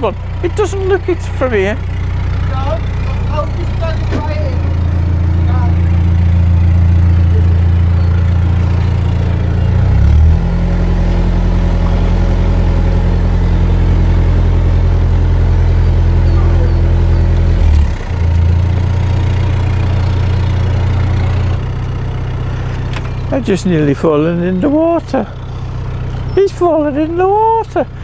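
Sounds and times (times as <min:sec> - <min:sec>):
diesel engine running at low revs: 0:00.0 - 0:28.0.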